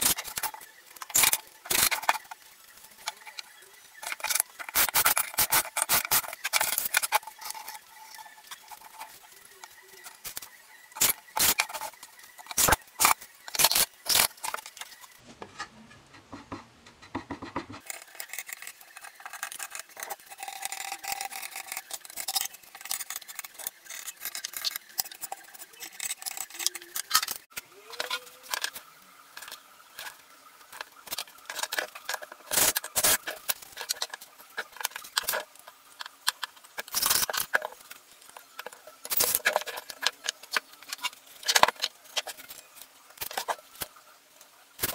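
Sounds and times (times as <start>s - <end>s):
light scraping and clinking: 0.0s - 44.0s.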